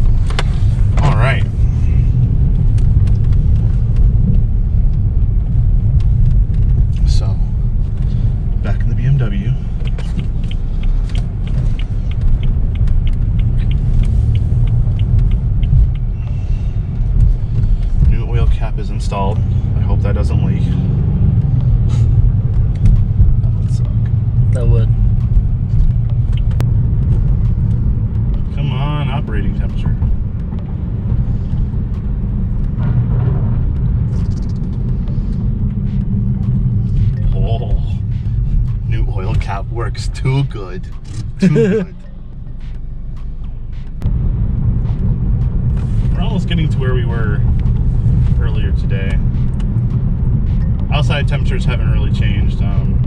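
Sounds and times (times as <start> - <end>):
engine and road rumble: 0.0 - 53.0.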